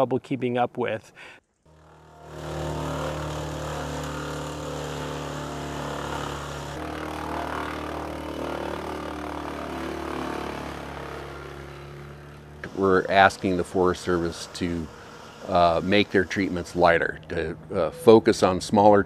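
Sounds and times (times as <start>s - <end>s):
wood chipper engine running: 1.7s - 17.8s.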